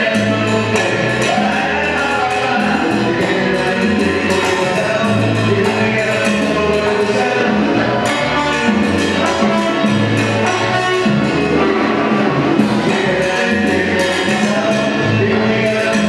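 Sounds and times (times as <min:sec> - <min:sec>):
live band playing: 0:00.0 - 0:16.0
repeating bass figure: 0:00.0 - 0:16.0.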